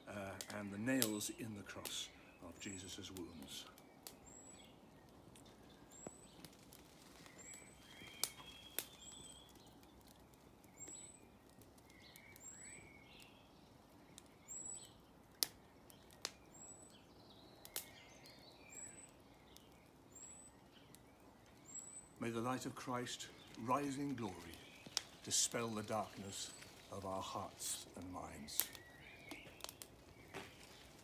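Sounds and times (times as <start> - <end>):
birds singing: 0.0 - 31.0
wood fire cracking: 0.0 - 31.0.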